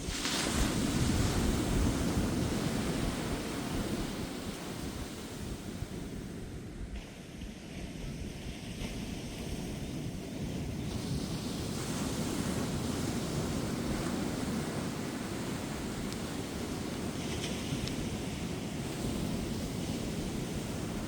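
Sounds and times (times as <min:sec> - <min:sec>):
ocean waves breaking: 0:00.0 - 0:21.0
wind on microphone: 0:00.0 - 0:21.0.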